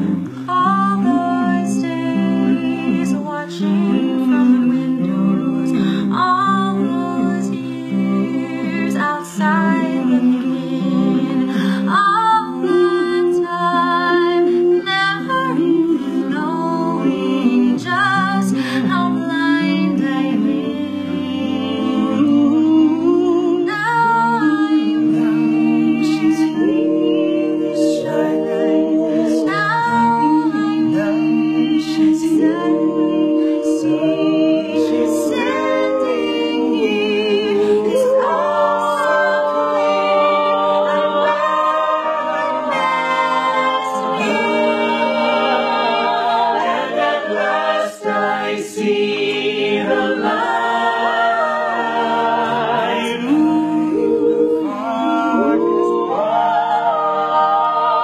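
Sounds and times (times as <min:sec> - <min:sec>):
mixed choir singing a cappella: 0:00.0 - 0:58.0.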